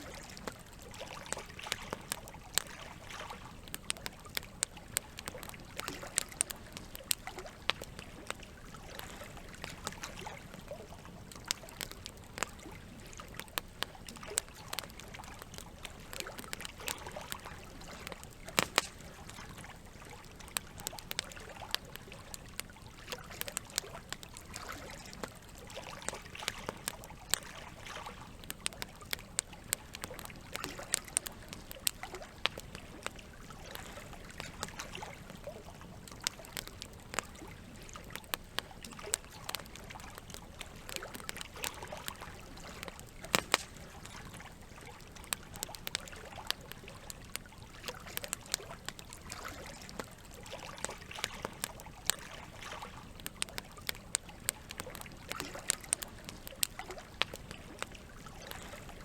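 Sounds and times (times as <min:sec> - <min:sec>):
campfire crackling and popping: 0:00.0 - 0:59.0
running water trickling: 0:00.0 - 0:59.0.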